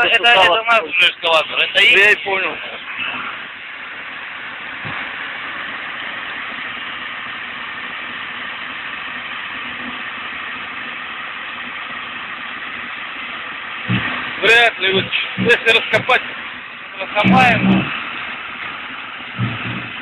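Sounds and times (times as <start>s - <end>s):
constant hiss: 0.0s - 20.0s
excavator diesel engine running: 0.0s - 20.0s.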